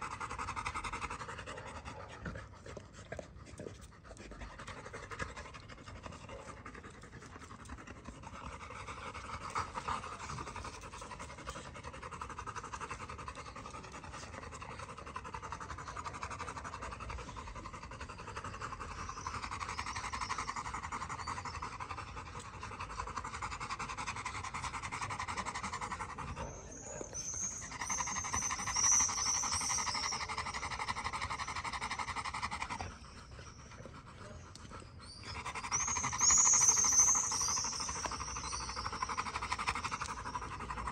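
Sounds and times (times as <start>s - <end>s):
dogs panting heavily: 0.0s - 40.9s.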